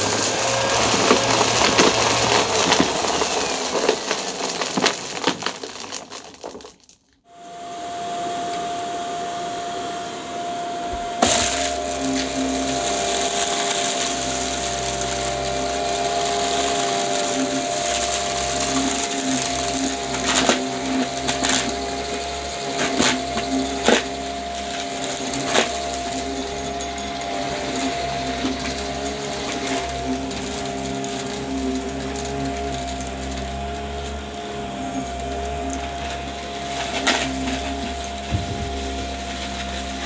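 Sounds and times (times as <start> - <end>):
vacuum motor whine: 0.0 - 5.2, 7.3 - 40.0
debris crackling in vacuum: 0.0 - 8.2, 11.2 - 40.0.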